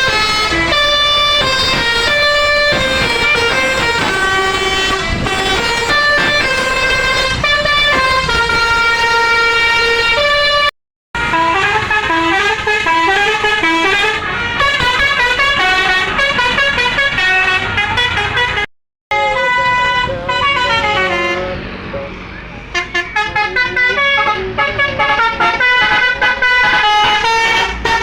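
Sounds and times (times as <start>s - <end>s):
musical bus horn playing a tune: 0.0s - 22.1s, 22.7s - 28.0s.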